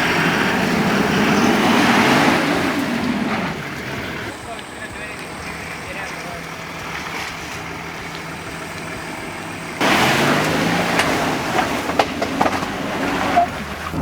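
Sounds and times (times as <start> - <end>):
diesel engine under load: 0.0 - 14.0
knocks and clatter: 0.0 - 14.0.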